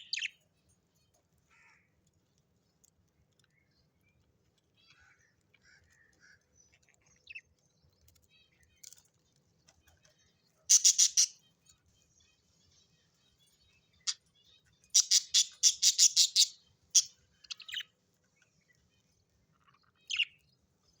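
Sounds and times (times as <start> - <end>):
bird chirping: 0.0 - 1.2, 2.6 - 21.0.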